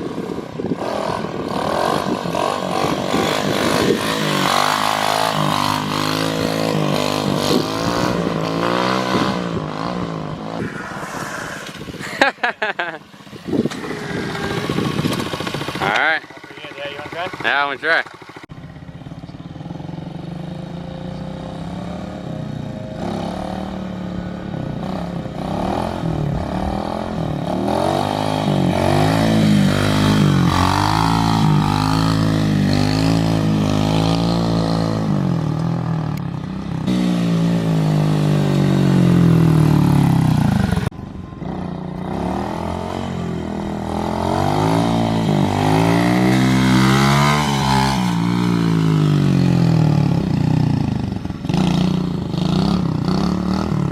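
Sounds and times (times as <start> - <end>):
pit bike engine revving: 0.0 - 18.5, 19.5 - 53.9.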